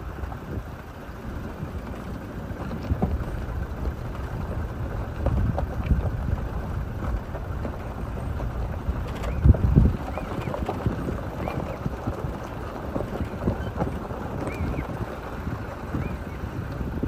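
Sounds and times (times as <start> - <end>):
vehicle rumbling on rough track: 0.0 - 17.0.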